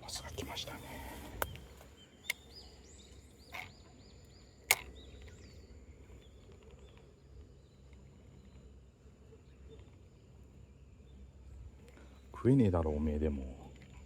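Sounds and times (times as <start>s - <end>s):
high insect whine: 0.0s - 14.0s.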